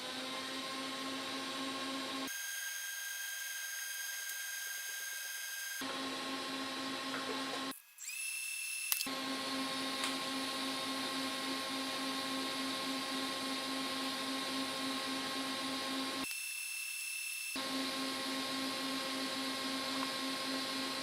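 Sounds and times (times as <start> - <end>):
motor-driven shop tool running: 0.0 - 21.0.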